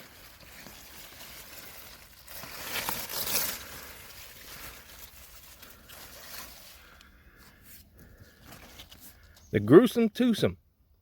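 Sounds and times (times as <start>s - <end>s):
leaves and soil rustling: 0.0s - 10.3s.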